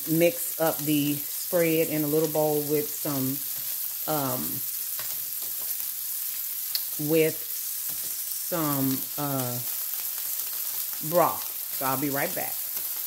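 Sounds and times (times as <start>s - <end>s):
chicken sizzling in a skillet: 0.0s - 13.0s.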